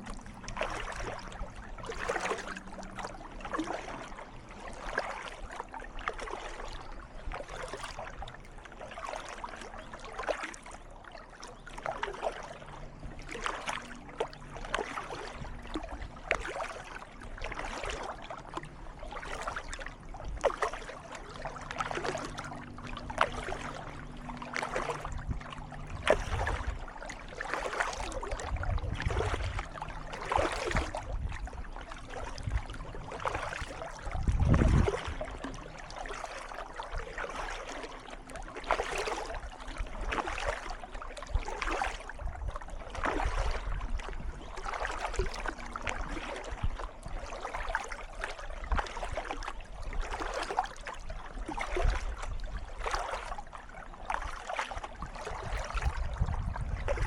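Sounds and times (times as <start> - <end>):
paddle strokes splashing water: 0.0 - 57.0.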